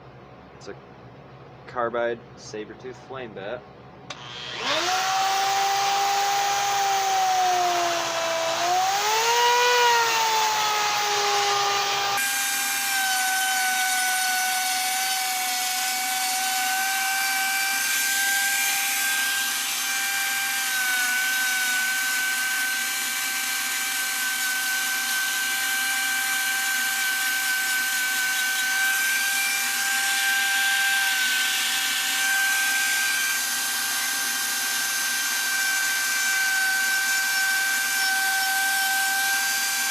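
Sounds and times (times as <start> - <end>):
rotary tool whining cutting wood: 4.1 - 39.9.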